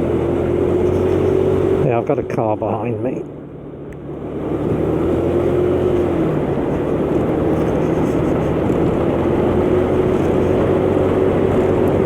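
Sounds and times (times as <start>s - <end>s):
scooter engine running: 0.0s - 12.0s
wind and road noise: 0.0s - 12.0s.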